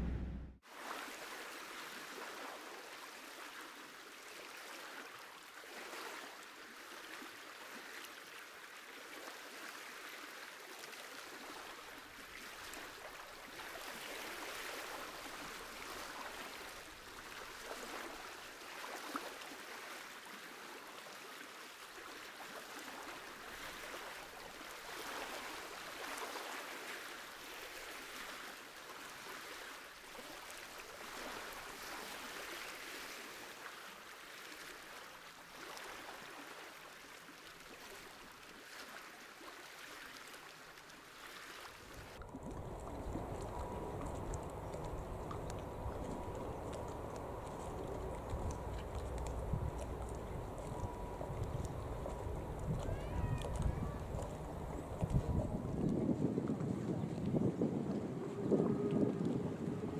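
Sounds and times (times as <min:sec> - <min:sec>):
sea water lapping around pilings: 0:00.0 - 0:59.9.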